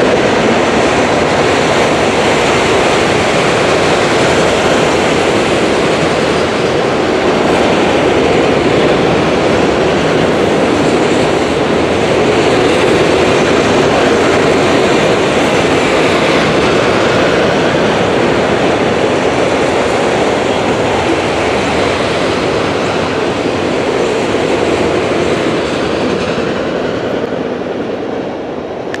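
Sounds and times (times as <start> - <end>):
train wheels rolling on rail: 0.0 - 29.0.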